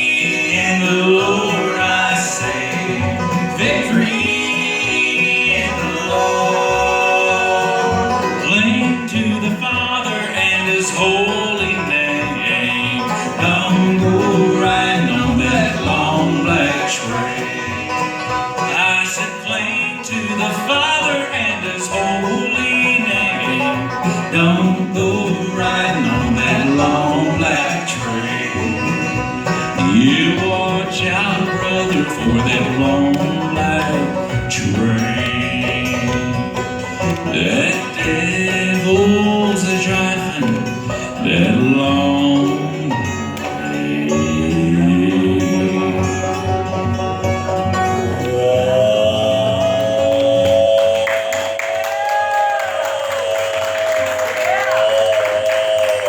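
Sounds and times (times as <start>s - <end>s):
banjo and guitar picking: 0.0s - 56.0s
bluegrass band playing live: 0.0s - 56.0s.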